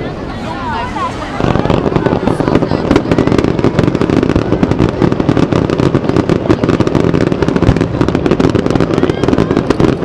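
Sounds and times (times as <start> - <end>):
fireworks popping and banging: 0.8 - 10.0.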